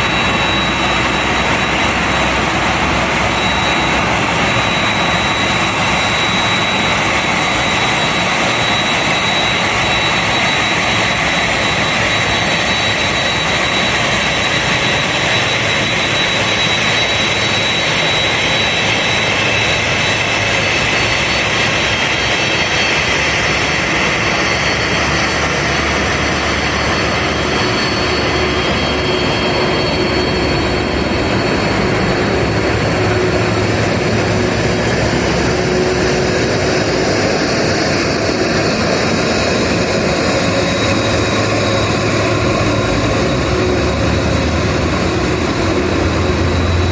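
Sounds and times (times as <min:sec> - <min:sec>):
jet engines running with whine: 0:00.0 - 0:46.9.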